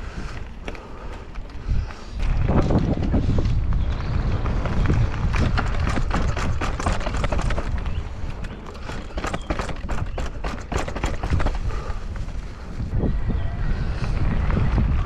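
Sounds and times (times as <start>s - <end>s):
mountain bike clattering: 0.0s - 12.9s.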